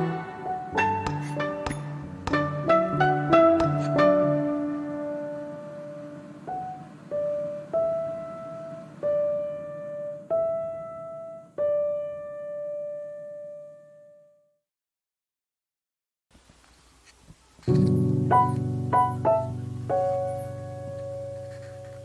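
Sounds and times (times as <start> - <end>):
slow piano melody: 0.0 - 14.6, 17.6 - 22.0.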